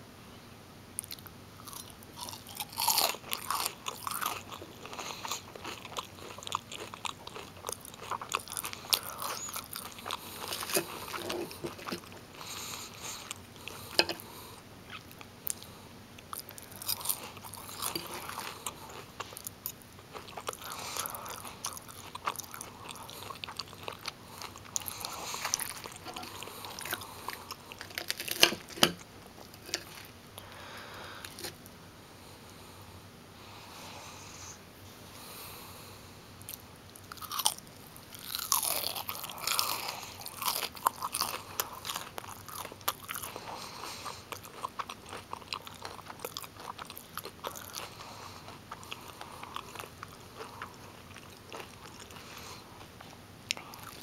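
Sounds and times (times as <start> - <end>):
crunching and chewing fish sticks: 1.0 - 31.6, 36.4 - 54.0.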